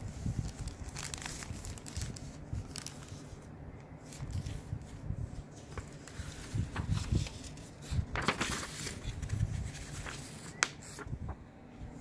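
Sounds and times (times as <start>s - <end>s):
paper rustling and crackling: 0.0s - 11.4s.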